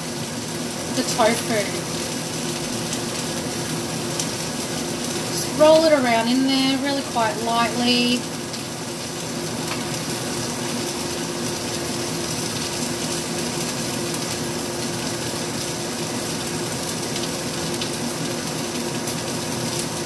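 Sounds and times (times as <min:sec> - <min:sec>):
food sizzling in a pan: 0:00.0 - 0:20.0
low steady hum: 0:00.0 - 0:20.0.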